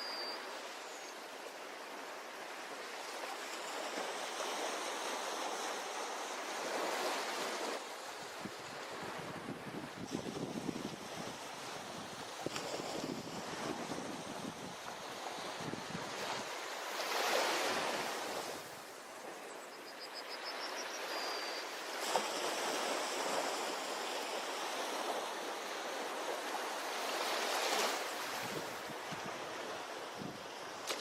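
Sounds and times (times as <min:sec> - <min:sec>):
ocean waves washing onto beach: 0:00.0 - 0:19.5, 0:21.0 - 0:31.0.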